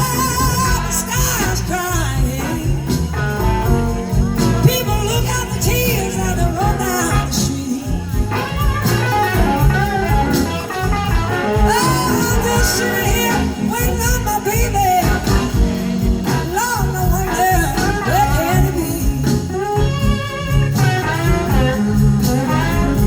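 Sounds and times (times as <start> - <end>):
electric guitar bending notes: 0.0 - 23.0
live band playing slow blues: 0.0 - 23.0.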